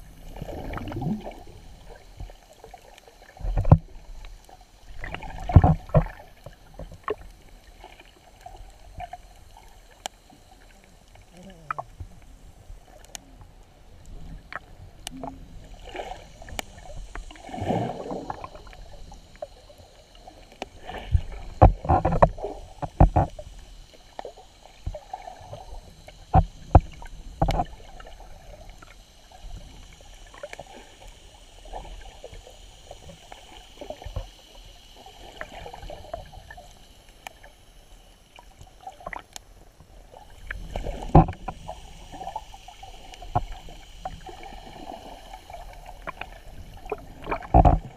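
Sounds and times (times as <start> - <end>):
underwater swishing and bubbling: 0.0 - 47.9.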